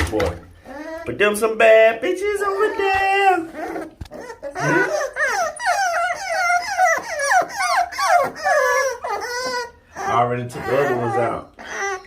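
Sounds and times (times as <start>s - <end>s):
puppies whining: 0.5s - 12.0s.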